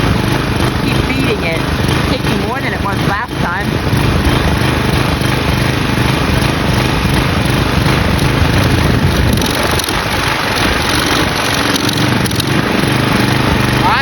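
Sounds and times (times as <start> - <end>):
lawn mower engine sputtering: 0.0 - 14.0.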